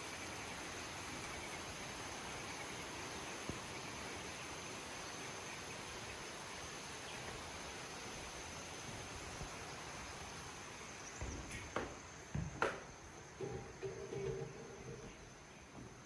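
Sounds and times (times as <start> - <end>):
faint even hiss: 0.0 - 16.0
high insect drone: 0.0 - 16.0.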